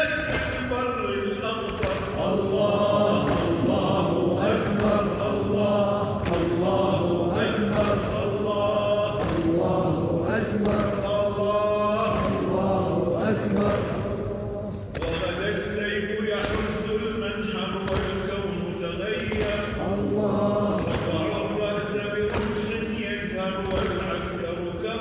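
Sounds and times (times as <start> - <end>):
men chanting a lament: 0.0 - 25.0.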